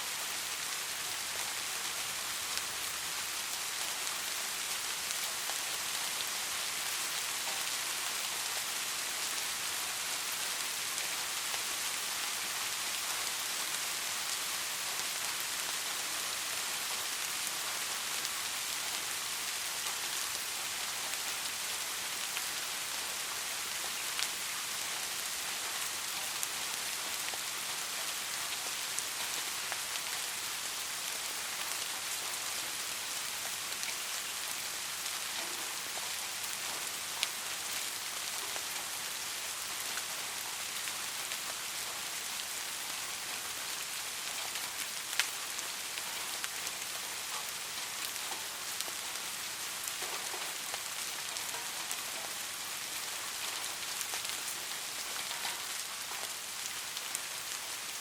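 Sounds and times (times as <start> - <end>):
soft rain falling: 0.0 - 58.0.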